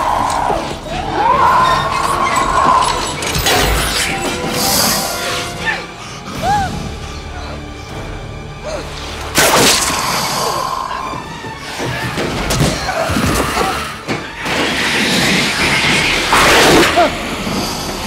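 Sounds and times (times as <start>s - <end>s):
film score music: 0.0s - 18.0s.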